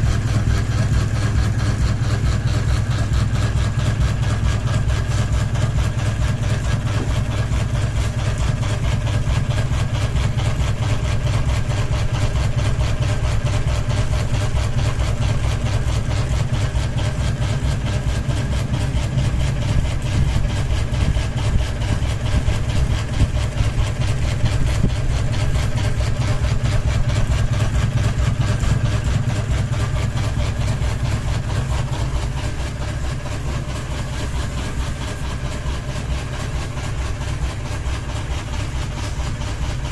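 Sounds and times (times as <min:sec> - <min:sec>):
wobbling ceiling fan hum: 0:00.0 - 0:39.9.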